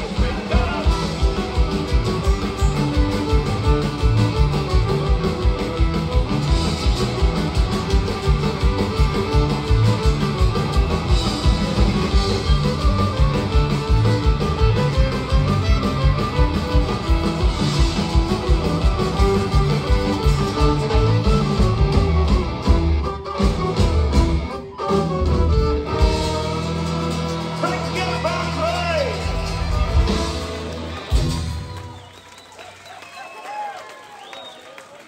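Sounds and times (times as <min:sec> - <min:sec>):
fast driving drum beat: 0:00.0 - 0:32.0
fiddle: 0:00.0 - 0:32.0
electric guitars: 0:00.0 - 0:32.1.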